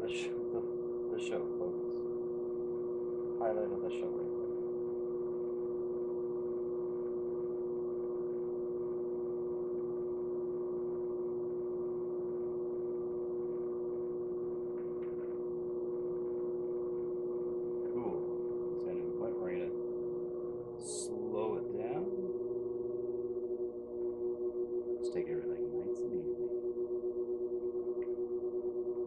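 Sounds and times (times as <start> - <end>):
pottery wheel motor humming: 0.0 - 29.0.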